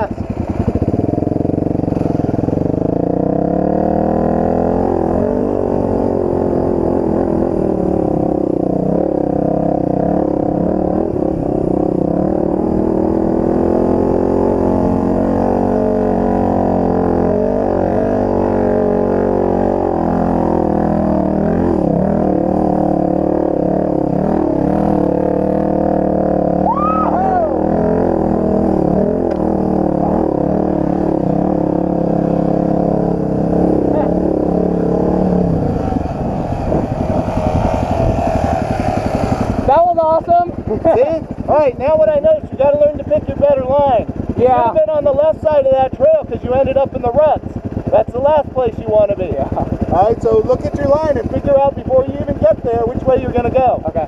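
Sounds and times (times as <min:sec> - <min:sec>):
dirt bike engine pulling: 0:00.0 - 0:54.0.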